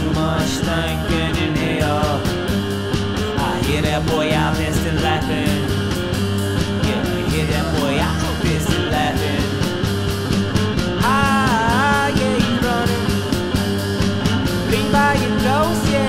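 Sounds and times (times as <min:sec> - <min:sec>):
garage rock band playing: 0:00.0 - 0:16.0.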